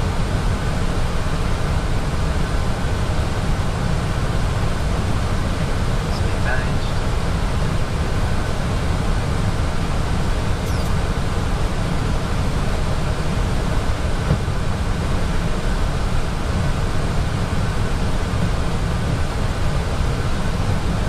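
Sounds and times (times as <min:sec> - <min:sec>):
air-conditioning hiss: 0:00.0 - 0:21.0
cockpit airflow rumble: 0:00.0 - 0:21.0.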